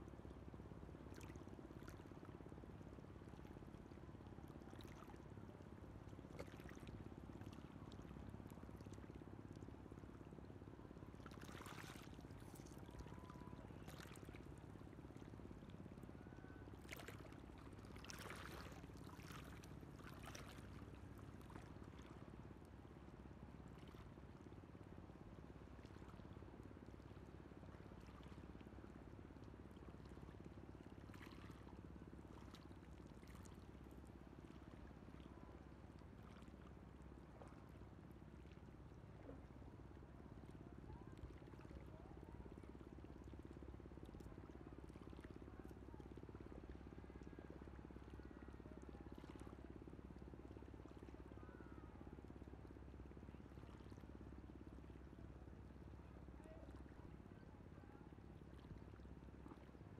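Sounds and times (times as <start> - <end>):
faint seawater lapping: 1.0 - 59.9.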